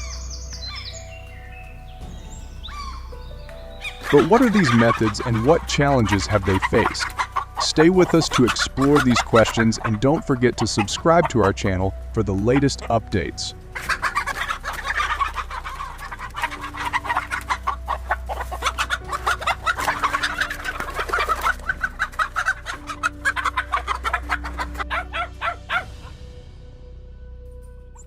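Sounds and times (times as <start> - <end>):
chickens clucking: 0.0 - 26.2.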